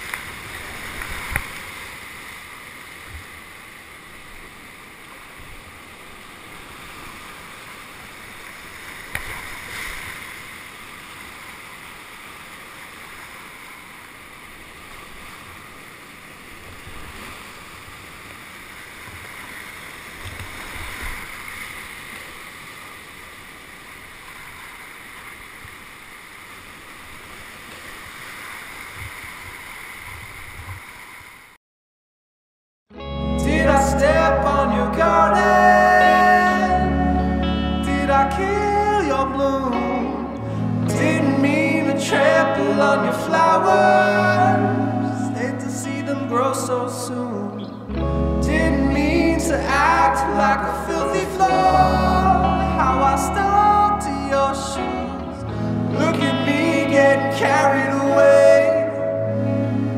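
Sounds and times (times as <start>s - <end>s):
rushing whitewater: 0.0s - 31.5s, 33.3s - 59.9s.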